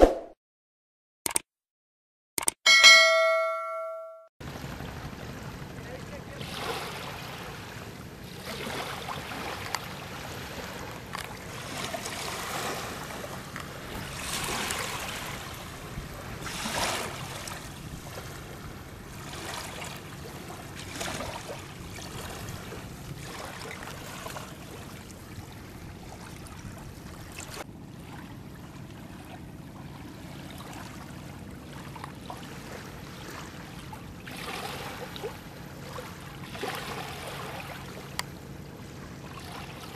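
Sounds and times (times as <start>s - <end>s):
water splashing around boat: 4.4s - 39.9s.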